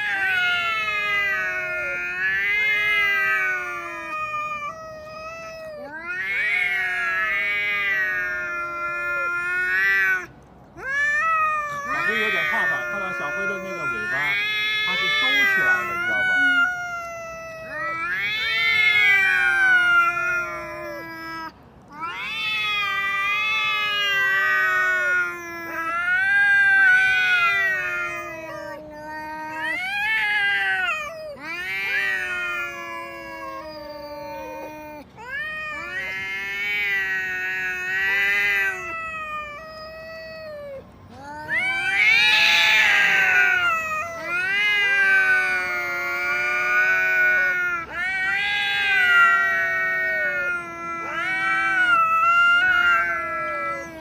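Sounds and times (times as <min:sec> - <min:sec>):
cat screech: 0:00.0 - 0:54.0
cats yowling: 0:00.0 - 0:54.0.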